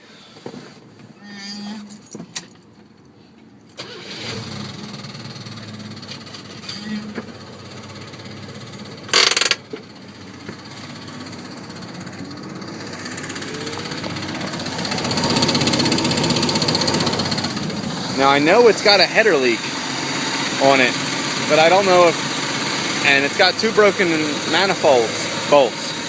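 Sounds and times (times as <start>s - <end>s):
engine starting and running: 3.7s - 26.0s.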